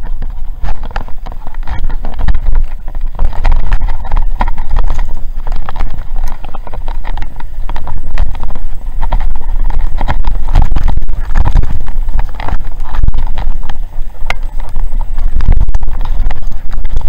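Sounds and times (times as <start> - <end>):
bike clattering over gravel: 0.0 - 17.0
wind buffeting microphone: 0.0 - 17.0.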